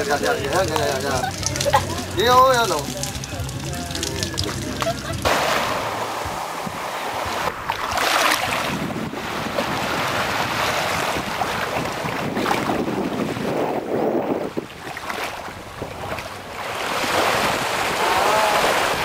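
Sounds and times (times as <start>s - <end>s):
small waves washing on shore: 0.0s - 19.0s
wind buffeting microphone: 0.0s - 19.0s.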